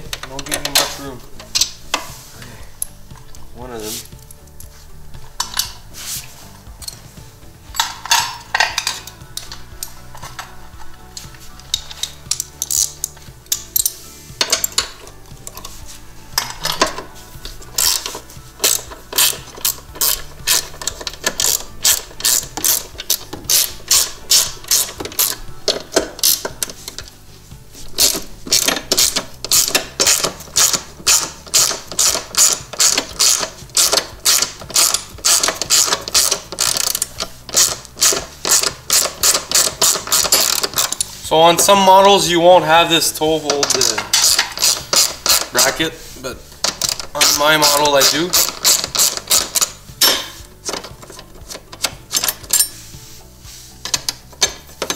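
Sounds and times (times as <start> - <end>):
socket ratchet clicking: 0.1 - 2.1, 7.7 - 27.2, 27.8 - 41.2, 43.5 - 45.8, 46.6 - 52.9, 53.8 - 54.9.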